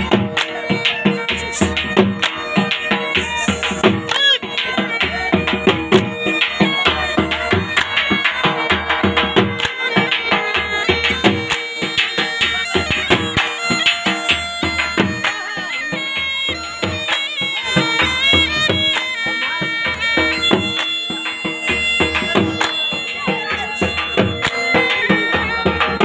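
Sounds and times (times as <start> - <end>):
drum beats: 0.0 - 26.0
reedy wind instrument melody: 0.0 - 26.0.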